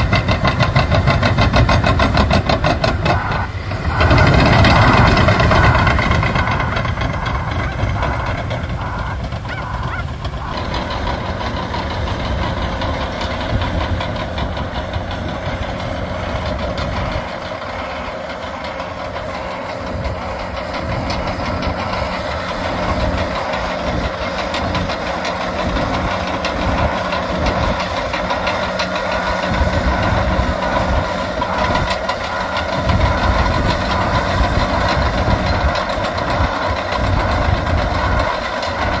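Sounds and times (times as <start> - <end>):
diesel engines rumbling: 0.0 - 39.0
steel tracks clattering: 0.0 - 39.0.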